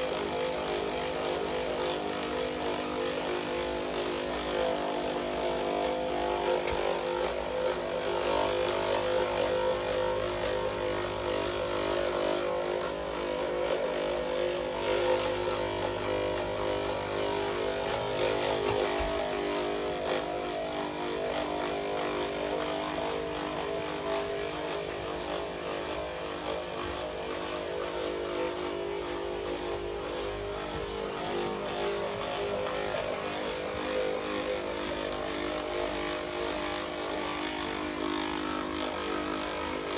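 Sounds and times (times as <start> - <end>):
massager motor hum: 0.0 - 39.9.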